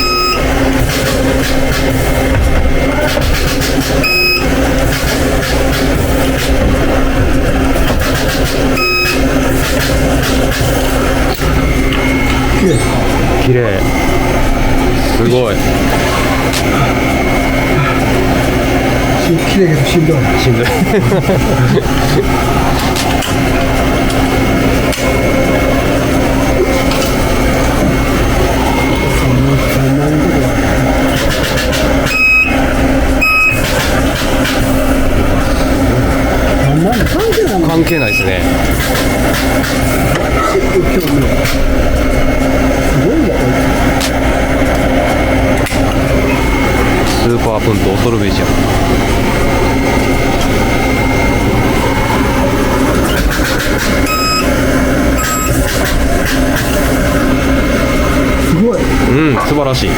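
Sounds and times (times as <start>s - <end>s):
spot welder high whine: 0.0s - 59.9s
workshop noise: 0.0s - 59.9s.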